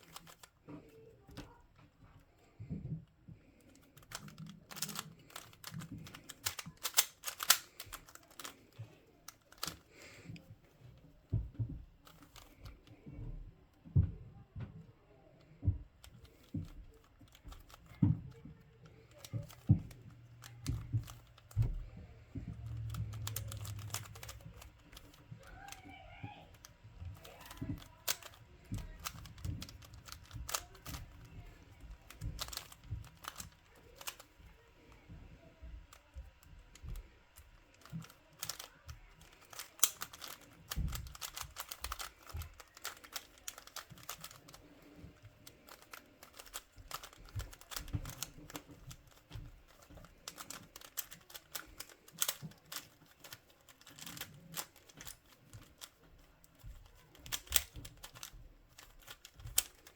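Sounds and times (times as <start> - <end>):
puzzle cube clicking: 0.0 - 1.6, 3.5 - 10.7, 12.0 - 13.1, 16.0 - 35.0, 36.0 - 59.9.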